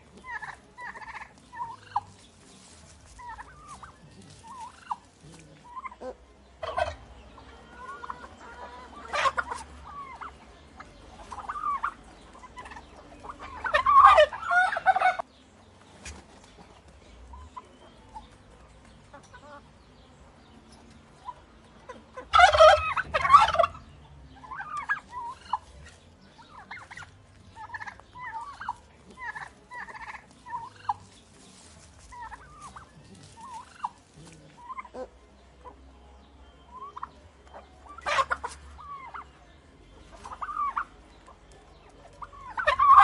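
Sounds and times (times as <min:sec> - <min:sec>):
turkey gobbling: 0:00.0 - 0:18.3, 0:19.1 - 0:19.6, 0:21.2 - 0:35.8, 0:36.7 - 0:43.0.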